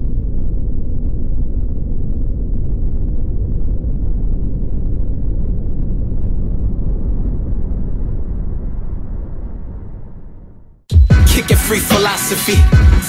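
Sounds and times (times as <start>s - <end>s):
deep rumble: 0.0s - 10.9s.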